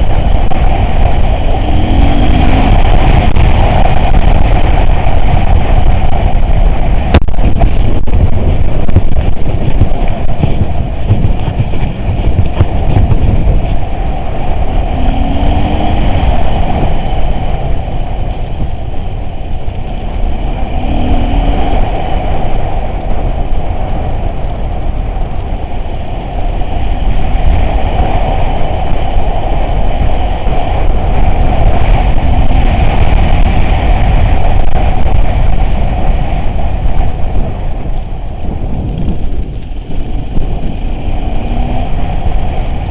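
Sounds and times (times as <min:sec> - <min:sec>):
off-road vehicle engine rumble: 0:00.0 - 0:42.9.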